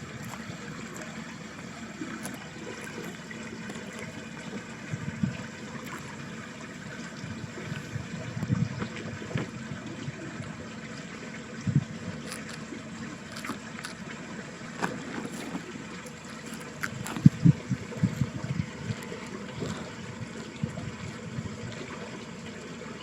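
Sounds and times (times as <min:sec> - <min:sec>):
stream water rushing: 0:00.0 - 0:23.0
water gurgles and splashes: 0:00.0 - 0:23.0.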